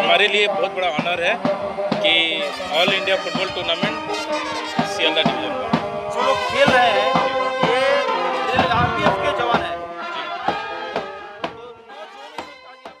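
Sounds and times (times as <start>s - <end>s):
music with sustained held notes: 0.0s - 13.0s
regular sharp hits: 0.0s - 13.0s.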